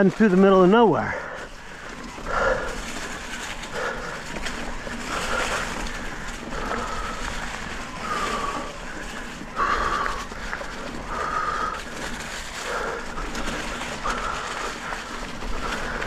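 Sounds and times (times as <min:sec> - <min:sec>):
tyre noise on dirt trail: 0:00.0 - 0:16.0.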